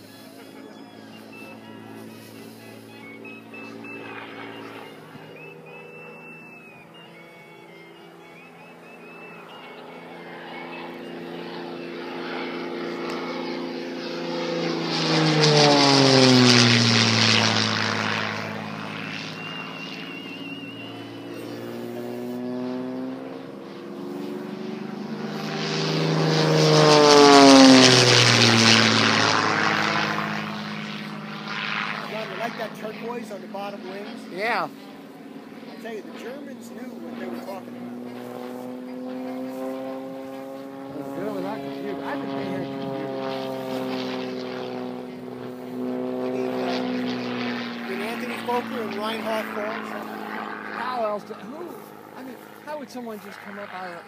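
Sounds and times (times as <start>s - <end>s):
model plane engine passing: 0.0s - 54.0s.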